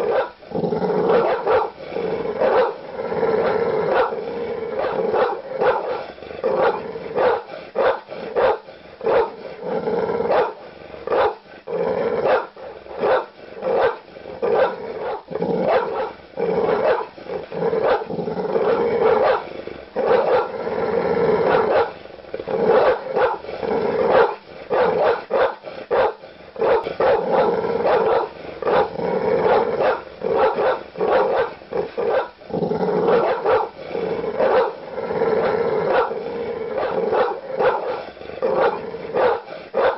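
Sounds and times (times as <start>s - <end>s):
large dogs barking aggressively: 0.0s - 39.9s.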